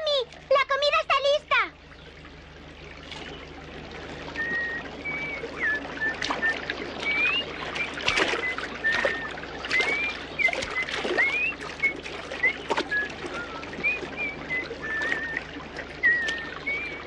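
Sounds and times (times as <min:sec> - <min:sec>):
birds chirping: 0:00.0 - 0:17.0
running stream: 0:00.0 - 0:17.0
feet splashing through shallow water: 0:02.2 - 0:17.0.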